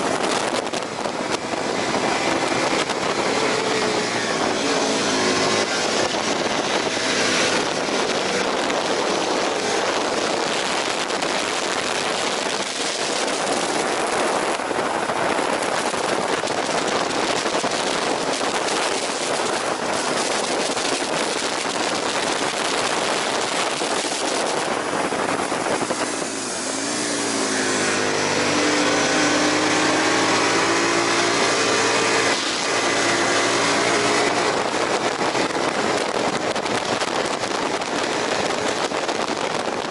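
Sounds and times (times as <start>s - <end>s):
motorcycle engine at speed: 0.0s - 39.9s
rushing wind: 0.0s - 39.9s.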